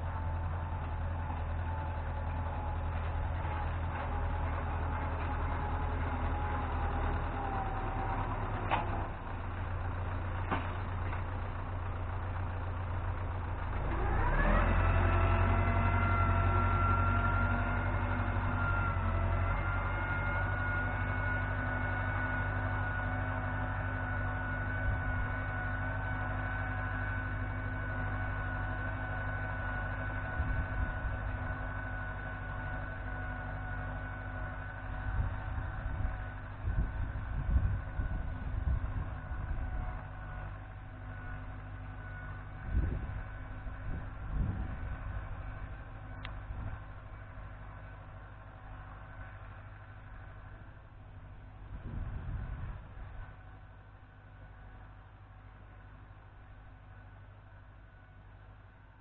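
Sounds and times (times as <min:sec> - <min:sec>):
tractor engine revving: 0:00.0 - 0:58.7.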